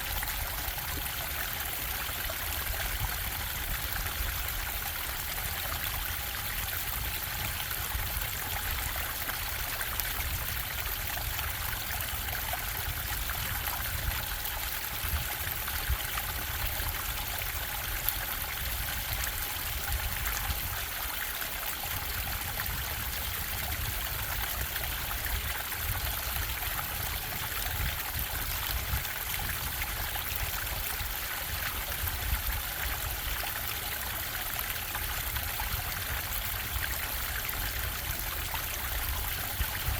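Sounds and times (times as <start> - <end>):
rumble of falling water: 0.0 - 39.9
stream bubbling over rocks: 0.0 - 39.9.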